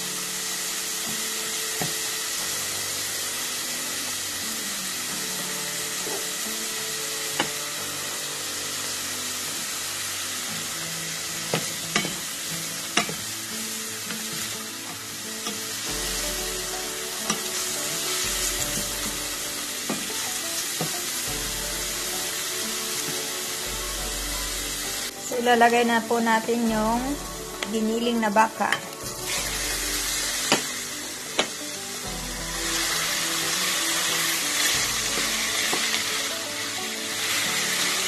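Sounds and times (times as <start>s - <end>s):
onion and garlic sizzling in oil: 0.0s - 38.0s.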